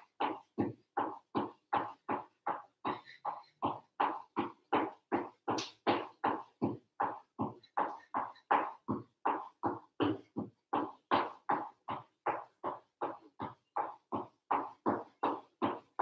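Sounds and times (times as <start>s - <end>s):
footsteps on wooden floorboards: 0.0s - 16.0s.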